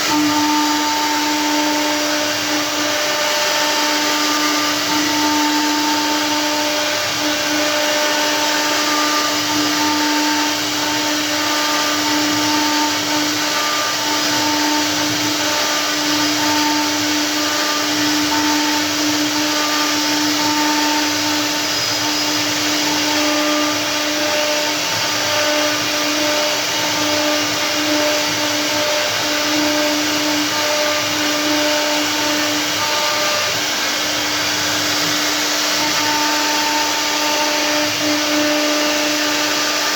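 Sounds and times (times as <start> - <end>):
grinding hiss: 0.0 - 39.9
router spindle motor whine: 0.0 - 39.9.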